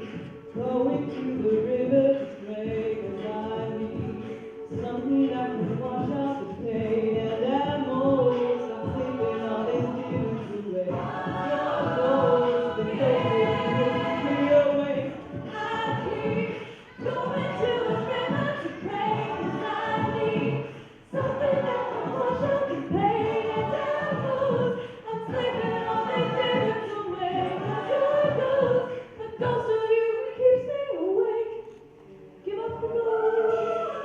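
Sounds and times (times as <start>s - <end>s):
a cappella group singing: 0.0s - 34.0s.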